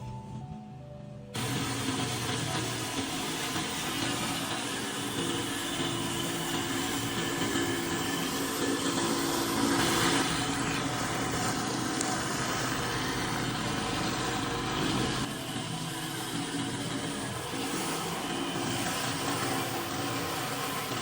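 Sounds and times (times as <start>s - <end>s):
pressure washer engine running: 1.4s - 21.0s.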